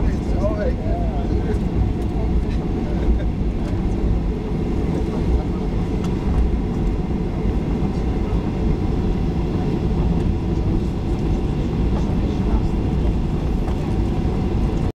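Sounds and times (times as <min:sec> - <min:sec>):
airplane cabin rumble: 0:00.0 - 0:14.9.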